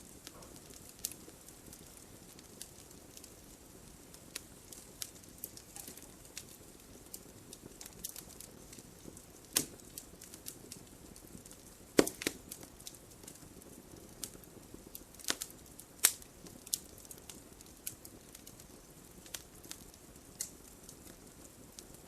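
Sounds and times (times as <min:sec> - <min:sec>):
faint fire hiss: 0:00.0 - 0:22.0
logs crackling and popping: 0:00.0 - 0:22.0.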